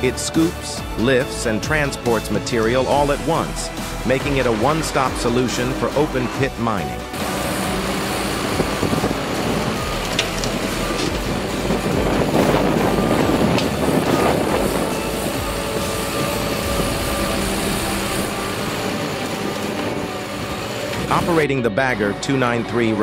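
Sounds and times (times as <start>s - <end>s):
heavy mechanical rumble: 0.0s - 23.0s.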